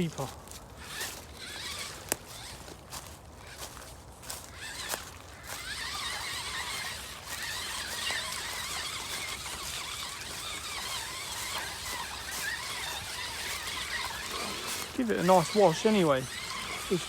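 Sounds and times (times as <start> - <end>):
rc car motor whining: 0.0 - 17.0.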